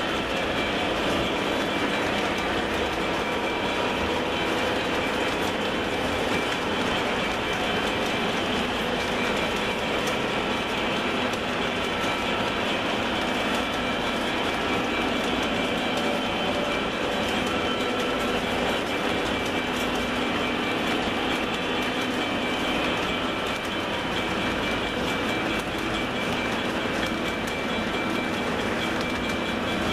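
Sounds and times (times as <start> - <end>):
model train rolling on metal track: 0.0 - 29.9.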